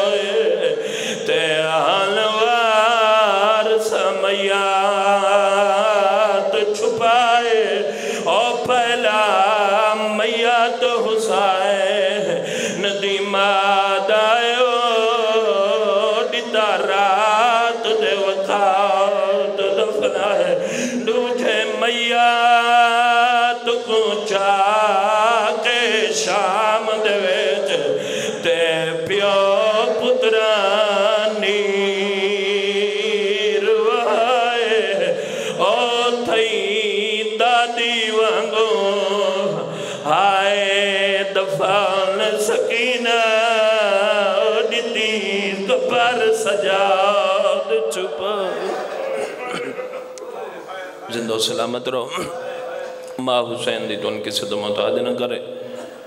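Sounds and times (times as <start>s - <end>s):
man chanting into a microphone: 0.0s - 50.0s, 50.6s - 55.9s.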